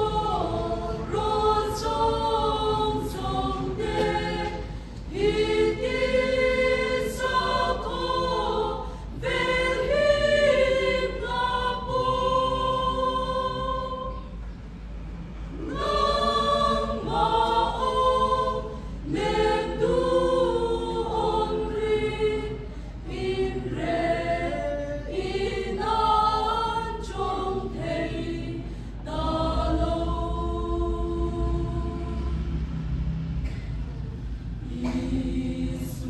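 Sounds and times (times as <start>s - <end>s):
mixed choir singing gospel song: 0.0s - 14.7s, 15.4s - 33.4s, 34.6s - 36.0s.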